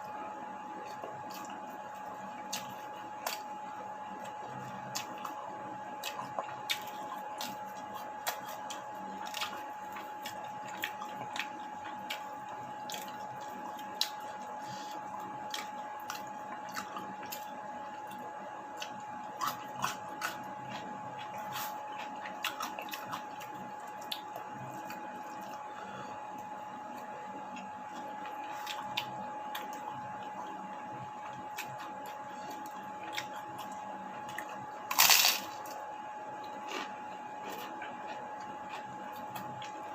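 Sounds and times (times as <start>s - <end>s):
faint hum: 0.0s - 39.9s
person chewing food: 0.8s - 39.9s.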